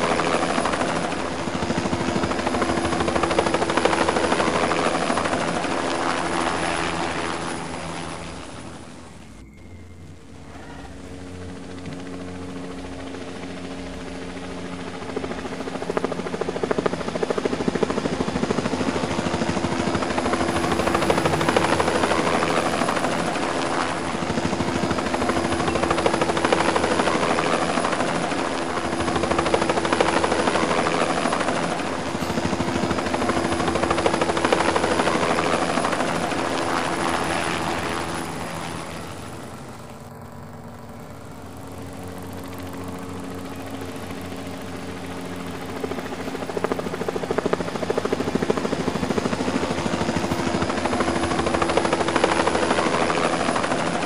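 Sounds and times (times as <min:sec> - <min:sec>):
rotor blades whirring: 0:00.5 - 0:54.0.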